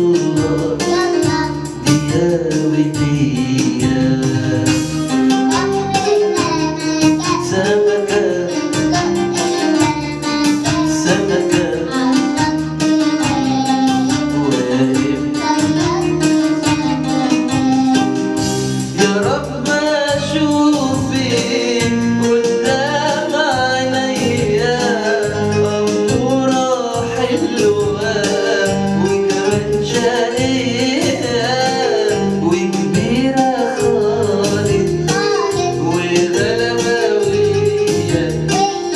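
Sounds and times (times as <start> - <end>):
instrumental backing with beat: 0.0 - 38.9
person singing: 0.0 - 38.9.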